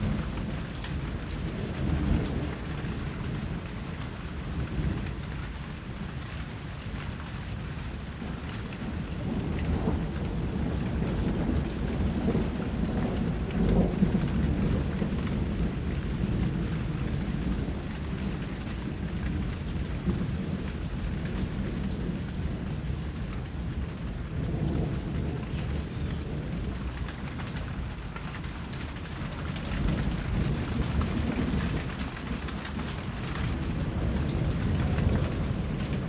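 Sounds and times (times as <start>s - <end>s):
rolling thunder: 0.0s - 6.2s, 8.0s - 36.0s
steady rain: 0.0s - 36.0s.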